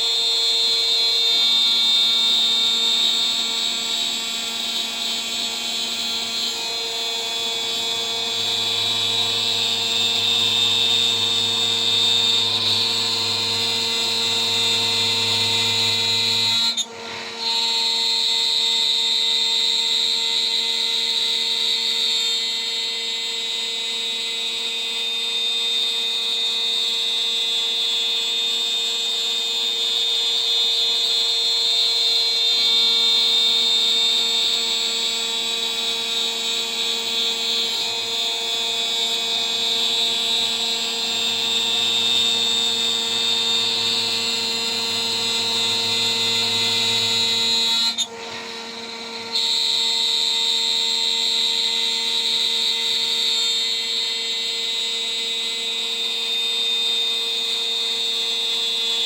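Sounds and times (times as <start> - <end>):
router spindle high whine: 0.0 - 59.0.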